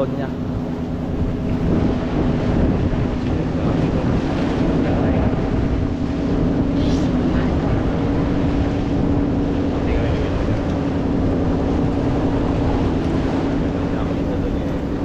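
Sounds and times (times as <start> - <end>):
boat engine running: 0.0 - 15.0
water rushing along hull: 0.0 - 15.0
wind buffeting microphone: 0.0 - 15.0.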